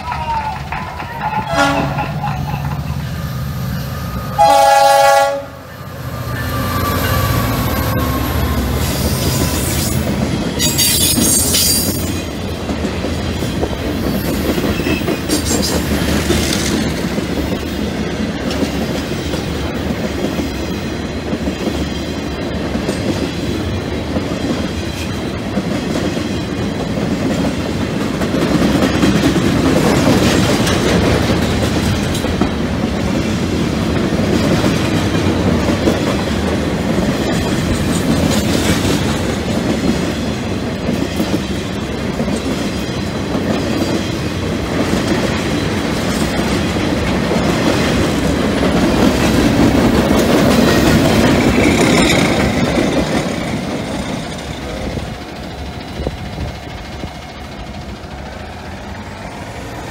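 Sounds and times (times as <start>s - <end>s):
steel wheels rumbling on rails: 0.0s - 59.9s
train clicking and clacking: 0.0s - 59.9s.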